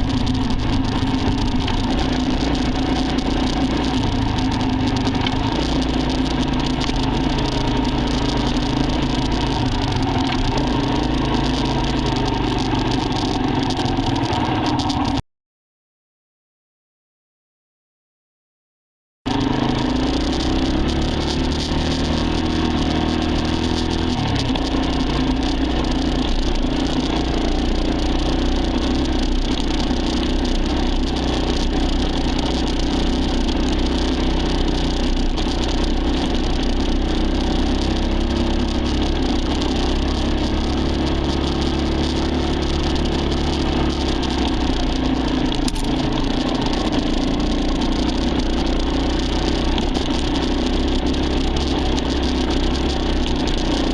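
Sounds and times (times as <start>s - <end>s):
dirt bike engine running: 0.0s - 15.2s, 19.3s - 53.9s.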